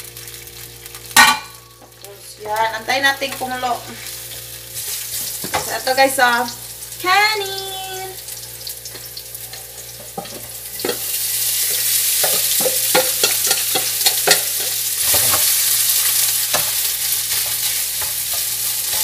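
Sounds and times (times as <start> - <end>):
rice sizzling in hot oil: 0.0 - 19.0.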